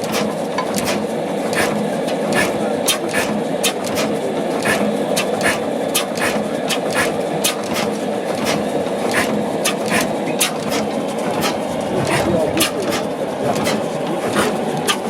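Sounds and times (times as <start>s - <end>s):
sharp engine clacks: 0.0s - 15.0s
stationary oil engine droning: 0.0s - 15.0s.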